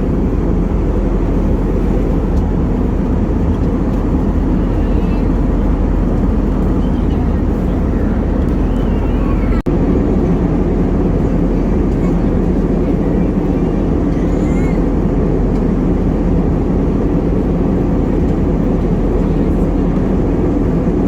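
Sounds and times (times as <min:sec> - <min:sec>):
jet airliner cabin noise: 0:00.0 - 0:21.0.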